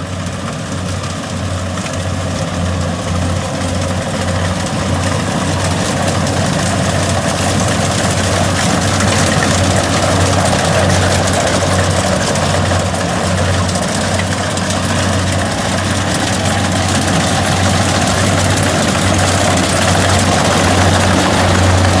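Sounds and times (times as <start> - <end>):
combine harvester diesel engine: 0.0 - 22.0
machine rattle: 1.8 - 22.0.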